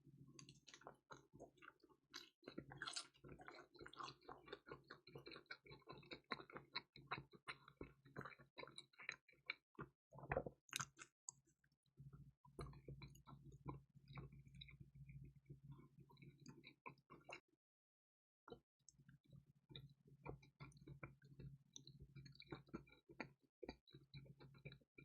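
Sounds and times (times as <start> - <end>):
chewing crispy pizza: 0.2 - 11.6, 12.4 - 17.4, 18.5 - 25.0.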